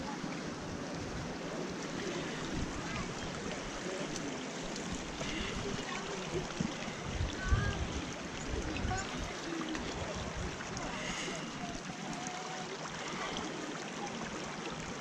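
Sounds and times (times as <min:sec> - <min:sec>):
creek water running over rocks: 0:00.0 - 0:15.0.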